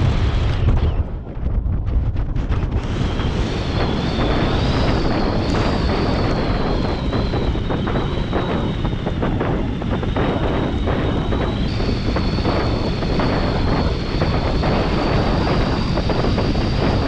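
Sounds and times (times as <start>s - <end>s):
wind buffeting microphone: 0.0s - 17.0s
thin high whistle: 3.3s - 17.0s.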